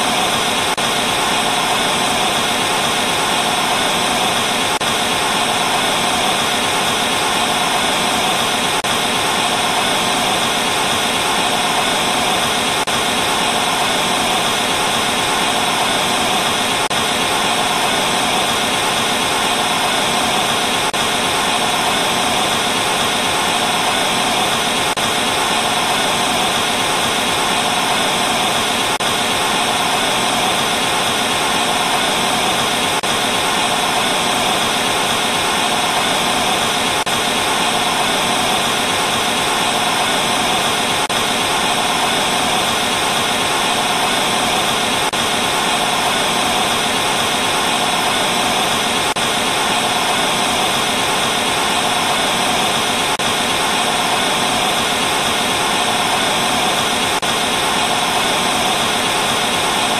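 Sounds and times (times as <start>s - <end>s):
tv static hiss: 0.0s - 59.9s.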